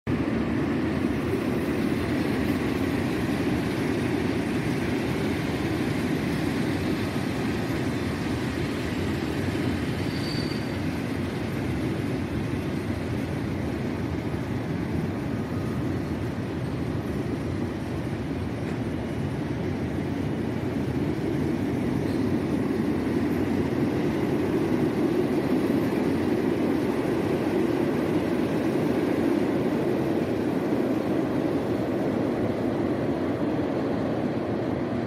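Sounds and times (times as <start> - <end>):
train rumbling over steel bridge: 0.1 - 35.0.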